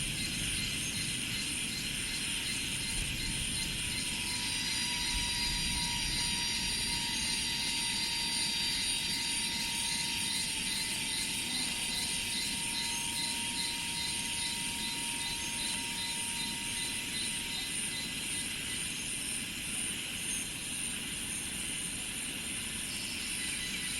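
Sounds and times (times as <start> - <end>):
insects buzzing: 0.0 - 23.9
pulsing insect chorus: 0.0 - 23.9.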